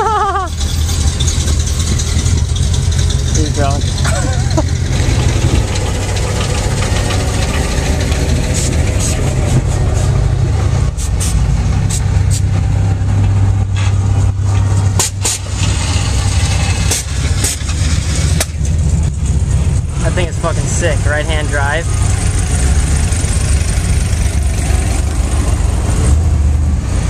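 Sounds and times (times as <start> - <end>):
car engines rumbling past slowly: 0.0 - 27.0.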